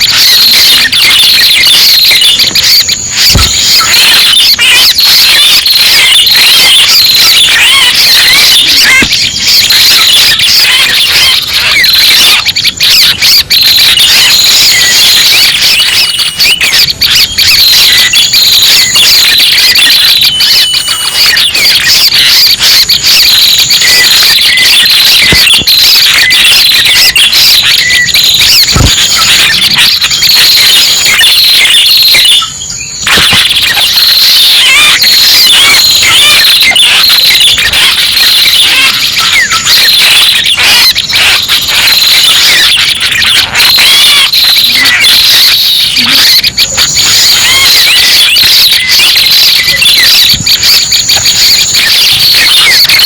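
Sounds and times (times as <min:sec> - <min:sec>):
bird chirps and whistles: 0:00.0 - 0:44.0.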